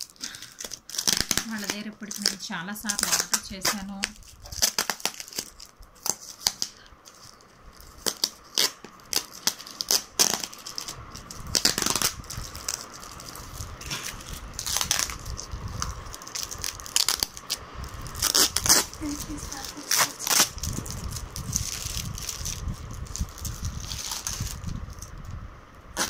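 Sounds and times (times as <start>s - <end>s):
packing tape peeling and tearing: 0.0s - 26.0s
plastic and bubble wrap crinkling: 0.0s - 26.0s.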